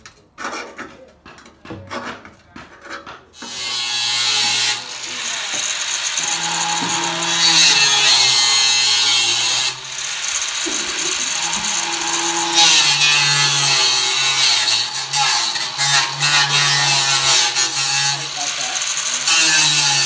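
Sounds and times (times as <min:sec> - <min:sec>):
power tool motor whine: 0:03.4 - 0:20.0.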